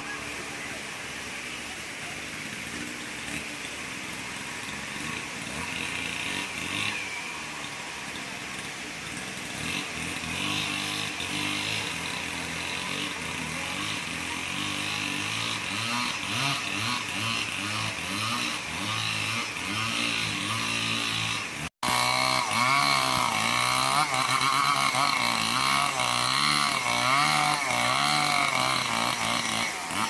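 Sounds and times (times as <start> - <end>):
small petrol engine revving: 0.0 - 30.0.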